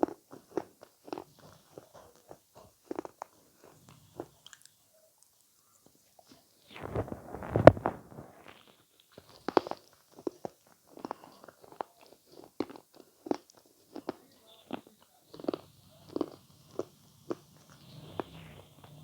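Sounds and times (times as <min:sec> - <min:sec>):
chewing clicks: 0:00.0 - 0:05.5, 0:09.0 - 0:19.0.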